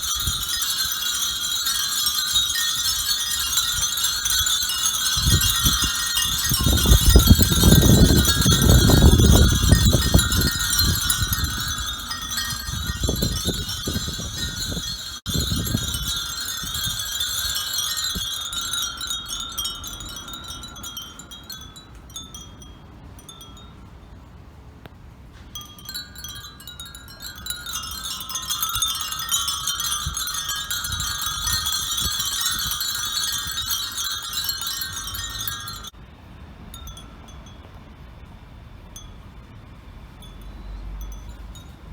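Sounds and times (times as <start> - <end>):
wind bells tinkling: 0.0 - 24.2, 25.4 - 36.0, 36.6 - 38.0, 40.1 - 41.9.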